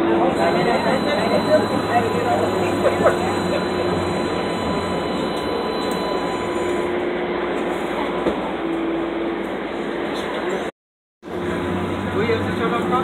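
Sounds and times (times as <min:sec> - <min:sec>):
streetcar running noise: 0:00.0 - 0:13.0.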